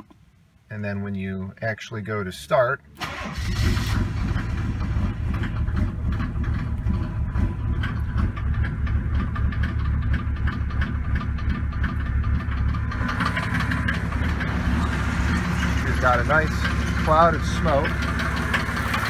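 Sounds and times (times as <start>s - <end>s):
diesel engine idling unevenly: 3.5s - 19.0s.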